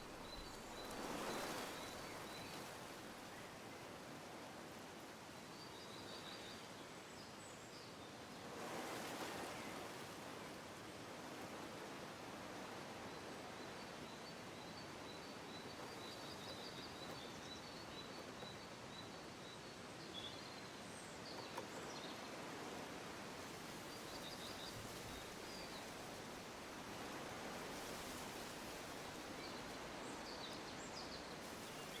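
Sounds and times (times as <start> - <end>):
faint background hiss: 0.0 - 32.0.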